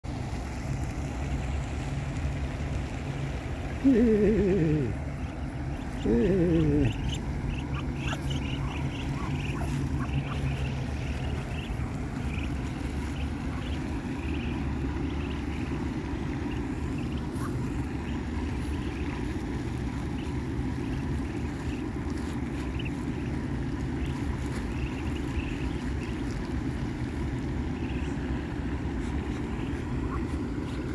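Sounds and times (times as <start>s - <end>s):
low rumble: 0.1s - 30.9s
ducklings peeping: 3.4s - 30.9s.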